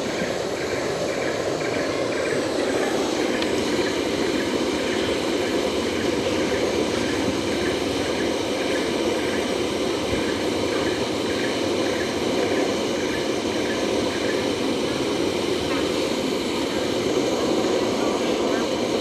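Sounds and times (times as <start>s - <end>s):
faint regular pulsing: 0.0s - 19.0s
steady rushing noise: 0.0s - 19.0s.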